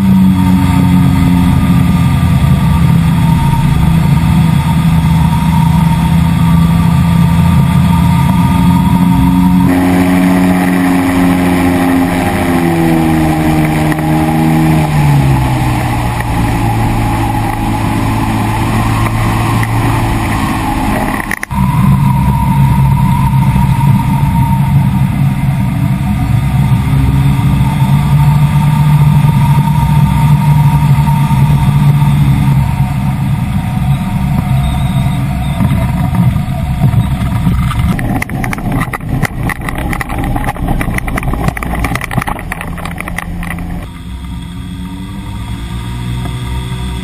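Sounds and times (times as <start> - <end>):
wheels rattling over bumpy ground: 0.0 - 44.4
propeller engine running: 0.0 - 47.0.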